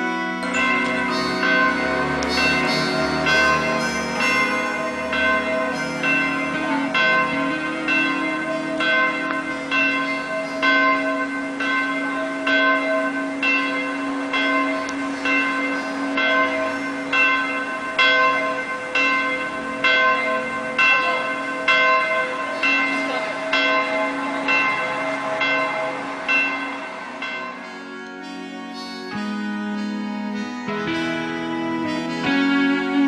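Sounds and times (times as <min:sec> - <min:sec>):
church bell tolling: 0:00.0 - 0:33.0
low hum: 0:00.0 - 0:33.0.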